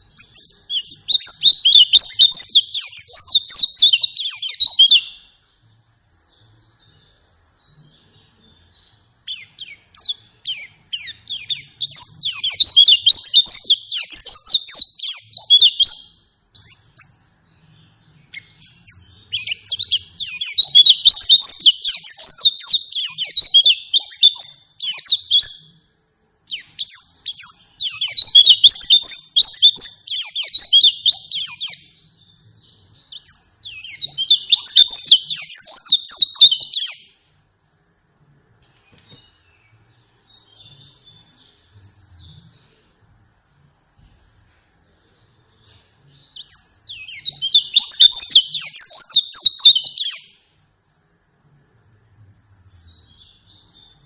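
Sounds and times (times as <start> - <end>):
bird twittering chirps: 0.0 - 37.9, 38.6 - 43.0, 43.6 - 51.1, 52.7 - 54.0.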